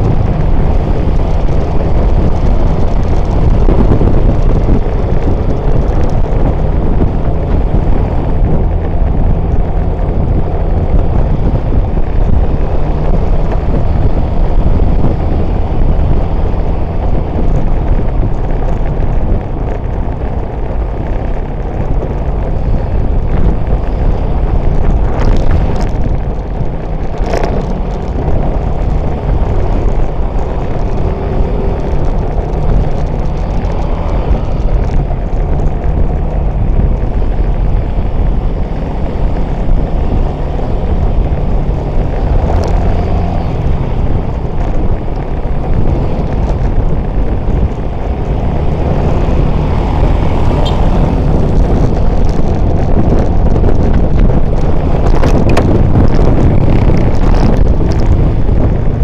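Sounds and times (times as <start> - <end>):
vehicle and road noise: 0.0 - 59.0
wind rumble on microphone: 0.0 - 59.0.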